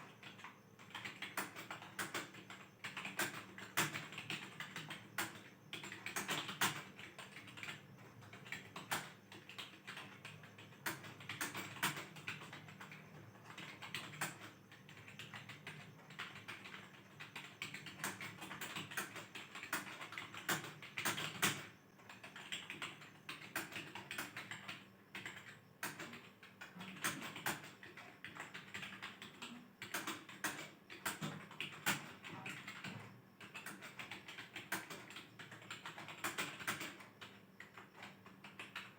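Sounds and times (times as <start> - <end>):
typing on computer keyboard: 0.0 - 38.9.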